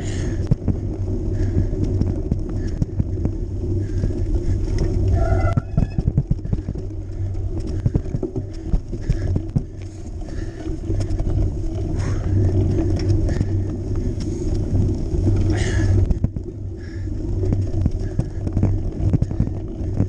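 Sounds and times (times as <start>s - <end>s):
bike knocks and rattles: 0.0s - 20.0s
bike riding over rough track: 0.0s - 20.0s.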